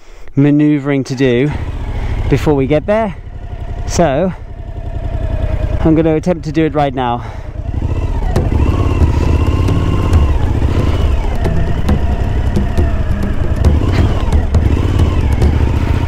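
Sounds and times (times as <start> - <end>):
motorcycle engine at low revs: 1.1 - 16.0.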